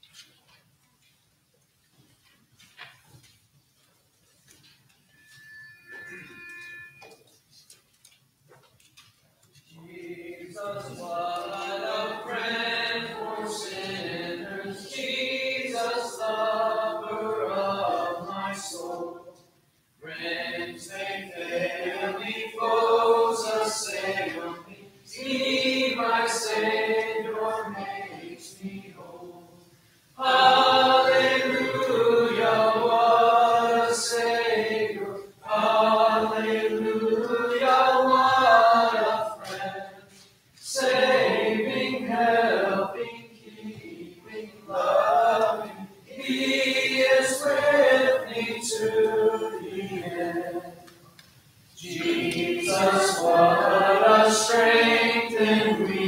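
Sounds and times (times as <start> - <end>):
congregation singing a hymn: 9.6 - 56.0.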